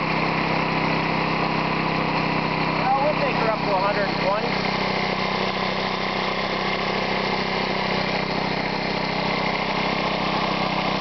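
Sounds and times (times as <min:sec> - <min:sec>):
air compressor pumping: 0:00.0 - 0:11.0
lawnmower engine running: 0:00.0 - 0:11.0.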